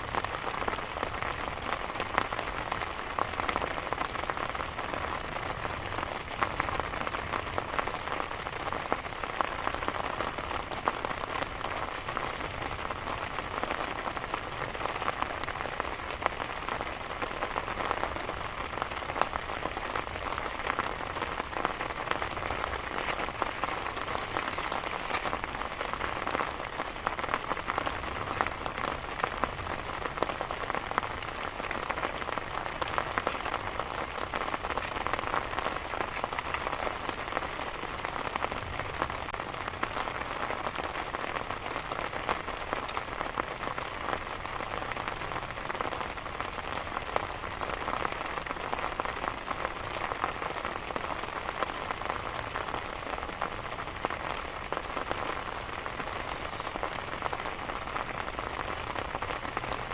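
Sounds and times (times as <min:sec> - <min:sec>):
heavy rain ticking on a surface: 0:00.0 - 0:59.9.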